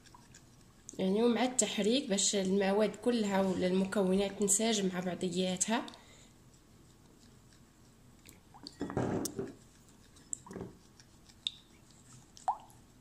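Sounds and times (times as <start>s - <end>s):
spoon squelching thick mixture: 0.0s - 13.0s.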